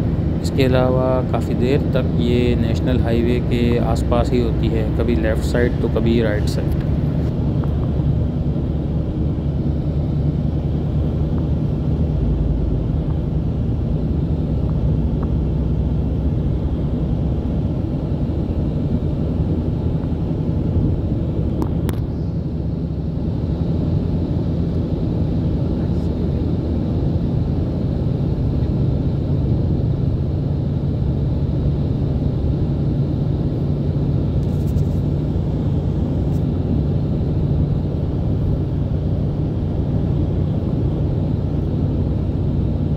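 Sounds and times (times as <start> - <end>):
car cabin road and engine noise: 0.0 - 42.9.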